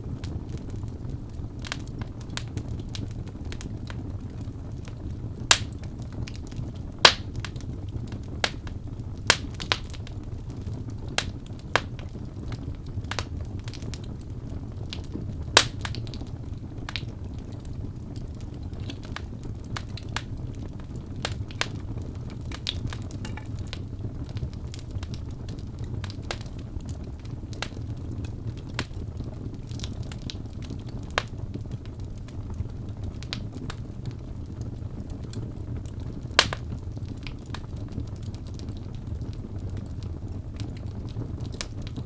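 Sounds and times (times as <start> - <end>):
burning wood crackles and pops: 0.0 - 42.0
low rumble of flames: 0.0 - 42.0.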